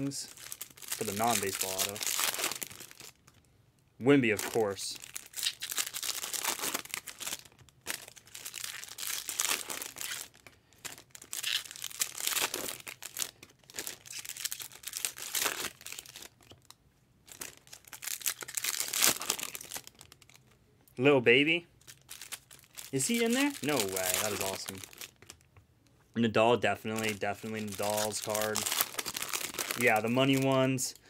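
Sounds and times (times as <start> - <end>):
foil wrappers crinkling and tearing: 0.0 - 3.4, 4.2 - 20.4, 21.8 - 25.4, 26.8 - 30.8.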